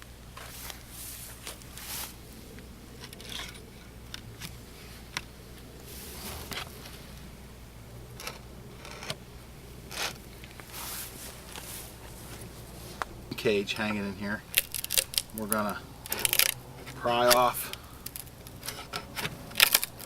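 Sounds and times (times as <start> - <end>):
low hum: 0.0 - 20.0
handling clicks and scrapes: 0.4 - 7.3, 8.1 - 9.3, 9.9 - 20.0.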